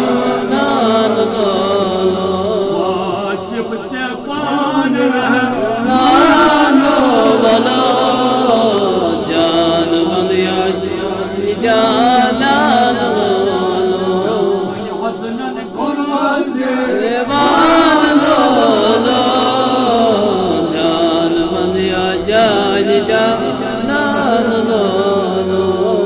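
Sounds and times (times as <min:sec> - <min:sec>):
man singing in chanting style: 0:00.0 - 0:26.0.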